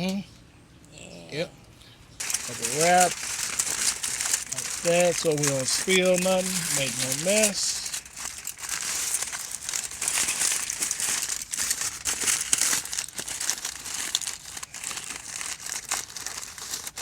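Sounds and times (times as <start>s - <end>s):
wrapping material crinkling: 2.2s - 17.0s.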